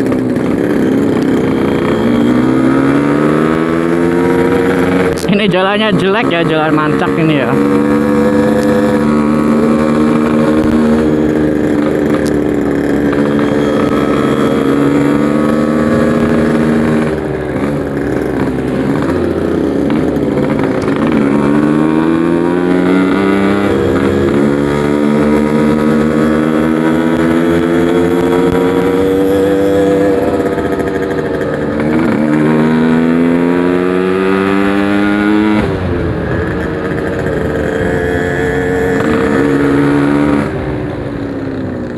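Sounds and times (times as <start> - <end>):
two-stroke motorcycle engine revving: 0.0 - 41.9.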